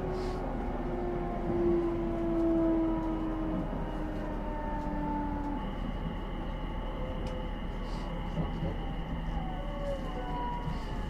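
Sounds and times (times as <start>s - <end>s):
train wheels on rail: 0.0s - 11.0s.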